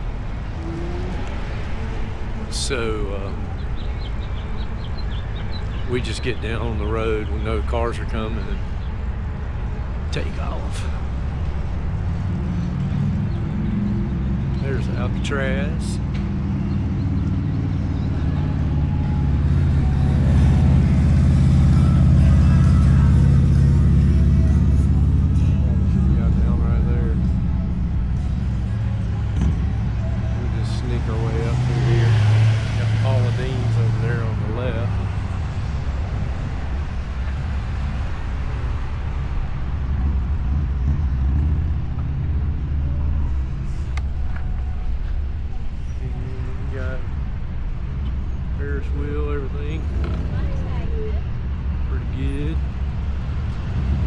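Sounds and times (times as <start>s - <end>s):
vehicle engine humming: 0.0s - 54.0s
wind and road noise: 0.0s - 54.0s.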